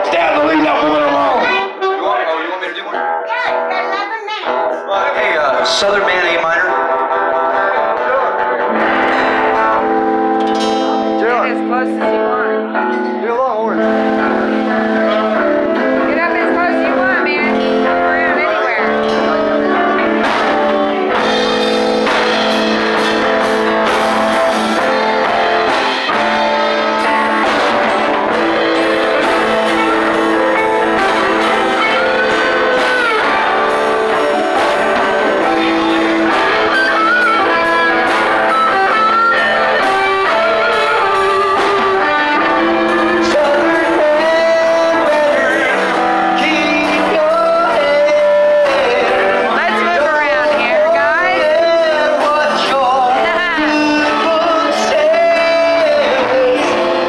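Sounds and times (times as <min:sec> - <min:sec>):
drums: 0:00.0 - 0:57.0
electric and acoustic guitars: 0:00.0 - 0:57.0.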